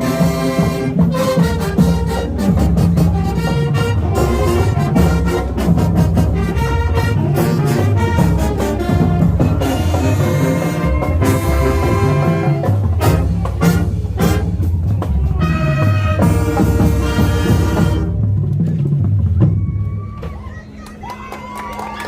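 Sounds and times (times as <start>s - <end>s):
brass horns: 0.0s - 18.4s
drum line: 0.0s - 20.4s.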